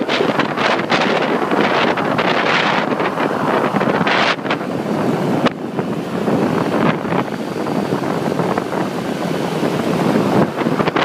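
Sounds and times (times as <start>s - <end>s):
engines and tyres on road: 0.0s - 11.0s
wind buffeting microphone: 0.0s - 11.0s.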